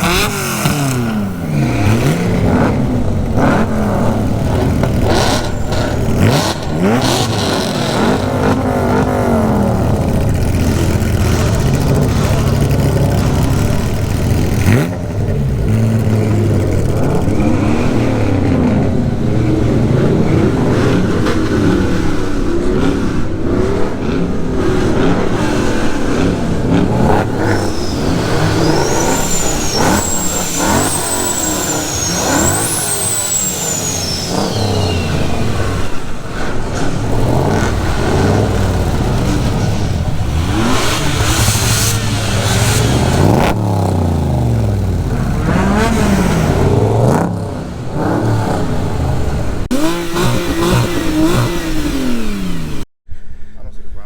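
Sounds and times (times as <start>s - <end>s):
high whine: 0.0s - 52.8s
car engines revving: 0.0s - 52.9s.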